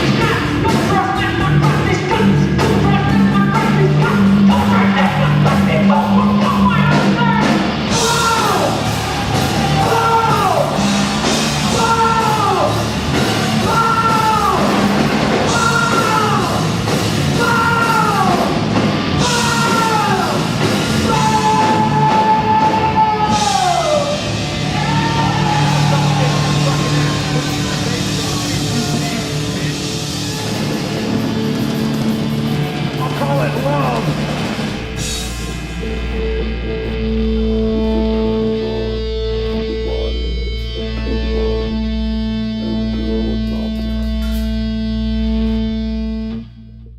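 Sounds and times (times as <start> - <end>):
live rock band playing: 0.0 - 46.4.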